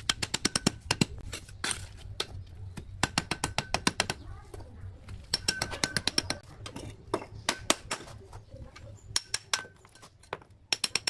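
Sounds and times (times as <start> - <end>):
trowel tapping bricks: 0.0 - 4.2, 5.1 - 8.2, 9.1 - 11.0.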